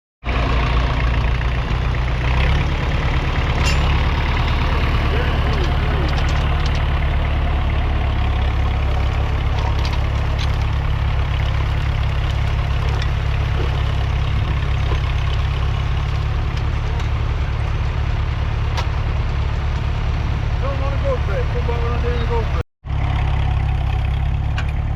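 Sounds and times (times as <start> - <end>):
diesel tractor engine running: 0.2 - 24.9.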